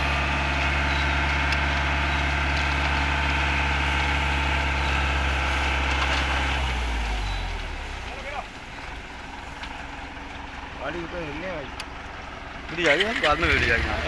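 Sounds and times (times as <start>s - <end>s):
concrete mixer engine running: 0.0s - 14.0s.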